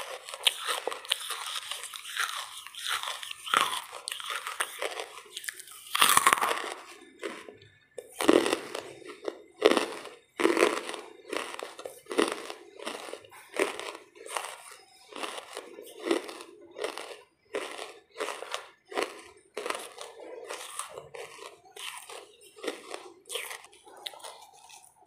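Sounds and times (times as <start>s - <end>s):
charcoal being chewed: 0.0s - 25.0s.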